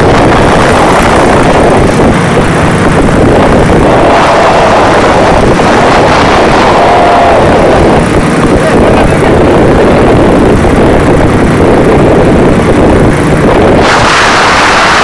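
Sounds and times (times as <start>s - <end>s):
aircraft engine: 0.0s - 15.0s
wind buffeting microphone: 0.0s - 15.0s
wind rushing: 0.0s - 15.0s.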